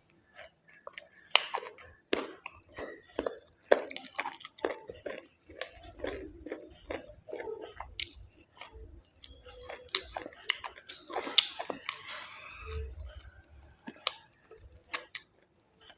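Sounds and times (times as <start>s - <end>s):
person chewing: 0.0s - 15.9s.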